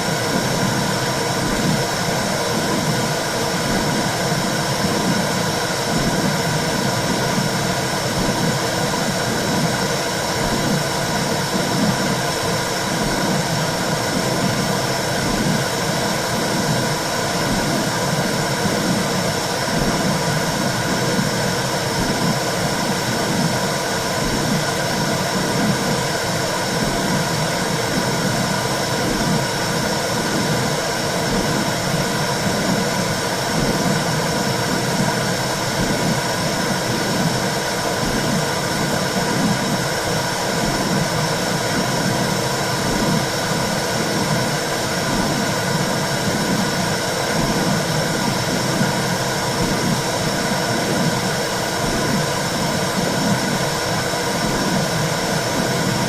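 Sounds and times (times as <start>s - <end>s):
low rhythmic pulsing: 0.0s - 56.0s.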